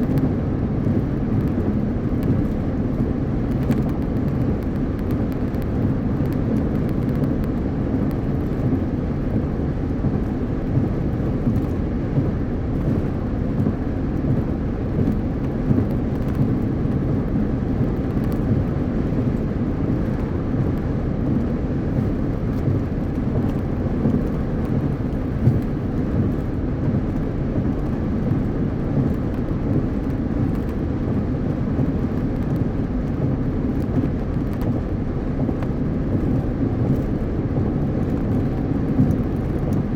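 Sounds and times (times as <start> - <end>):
car road noise at highway speed: 0.0 - 39.9.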